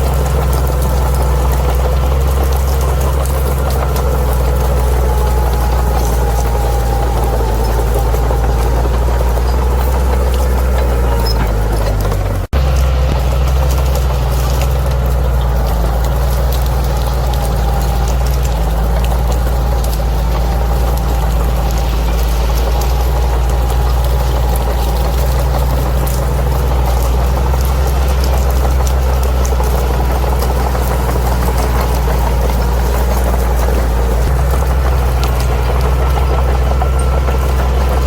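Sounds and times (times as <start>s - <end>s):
bulldozer diesel engine running: 0.0s - 38.0s
faint clicks and rattles: 0.0s - 38.0s.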